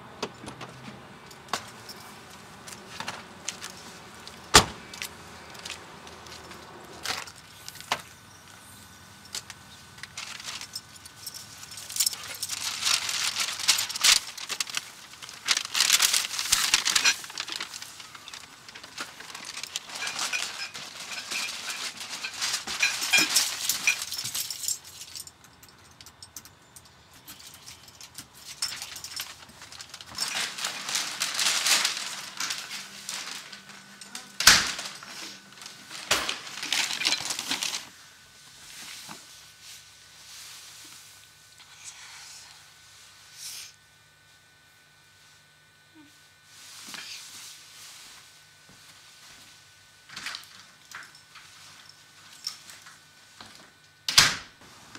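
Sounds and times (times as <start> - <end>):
grocery bags rustling: 0.5 - 26.0, 27.2 - 41.4, 46.0 - 53.9.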